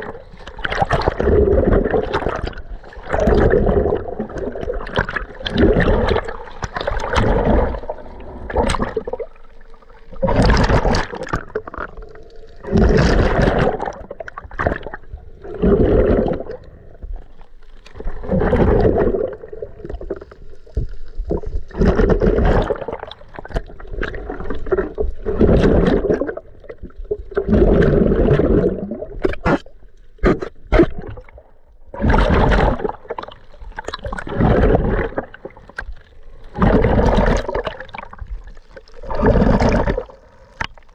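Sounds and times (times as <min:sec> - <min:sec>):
muffled underwater water noise: 0:00.0 - 0:40.9.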